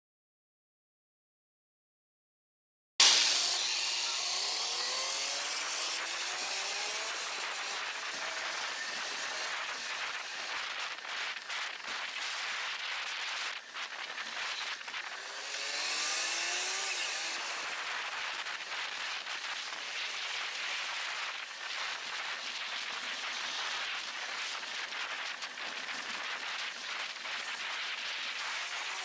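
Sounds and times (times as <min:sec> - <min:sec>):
wind and road noise: 0:03.0 - 0:29.0.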